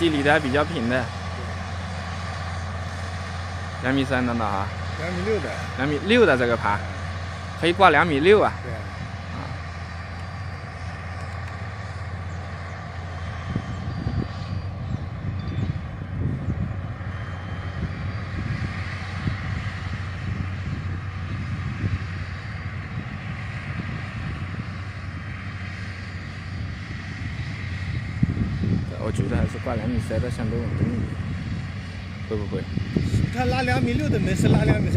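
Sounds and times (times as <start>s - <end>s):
distant tractor engine: 0.0s - 34.9s
low rumbling gusts: 0.0s - 34.9s.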